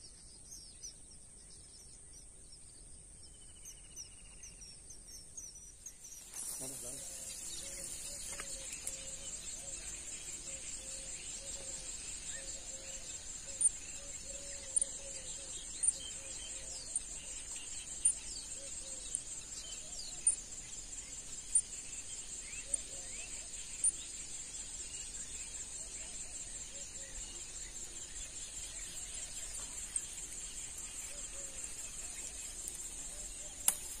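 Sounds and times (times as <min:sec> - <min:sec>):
insects trilling: 0:05.8 - 0:34.0
faint birds calling: 0:06.2 - 0:34.0.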